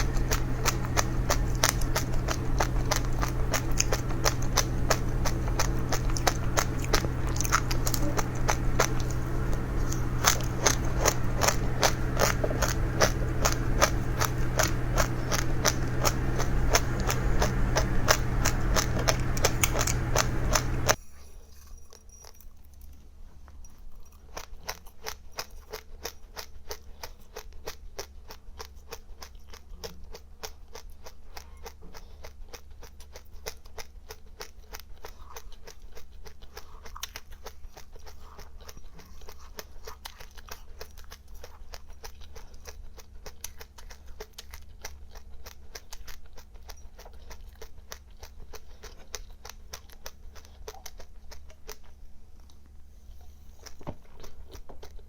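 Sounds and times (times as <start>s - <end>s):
chewing crunchy seeds: 0.0s - 55.0s.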